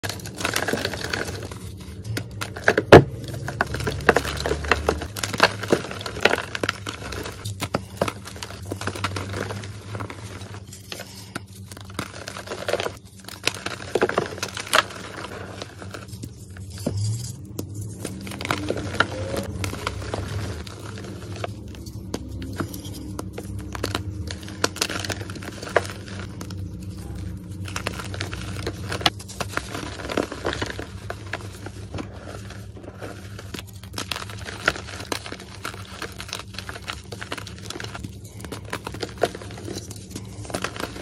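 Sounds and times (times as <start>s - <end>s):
chalk crunching and crackling: 0.0s - 41.0s
powdery crumbling: 0.0s - 41.0s.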